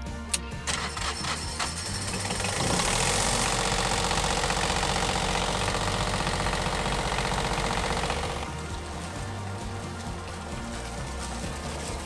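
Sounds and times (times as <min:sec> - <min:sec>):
diesel generator running: 0:00.0 - 0:12.0.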